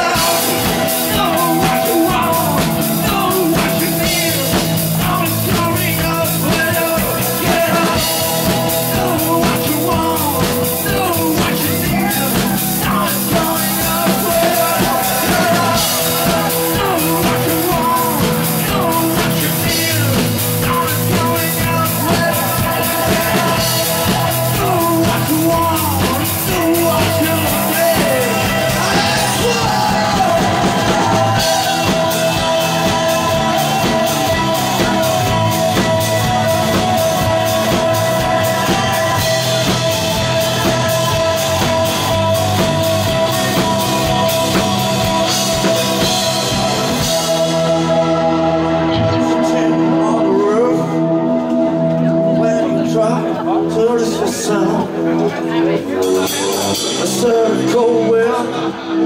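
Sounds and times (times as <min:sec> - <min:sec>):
drum kit: 0:00.0 - 0:52.2, 0:54.5 - 0:58.2
electric guitar: 0:00.0 - 0:59.0
person singing: 0:00.0 - 0:59.0.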